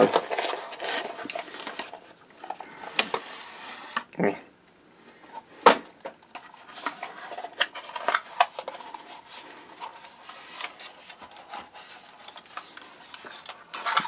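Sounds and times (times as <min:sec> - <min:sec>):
packaging rubbing and scraping: 0:00.0 - 0:04.0, 0:06.4 - 0:14.0.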